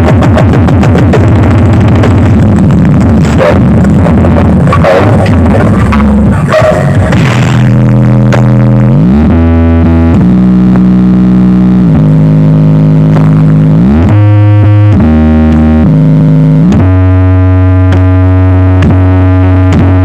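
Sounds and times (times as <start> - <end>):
synthesizer music with heavy bass: 0.0 - 20.0.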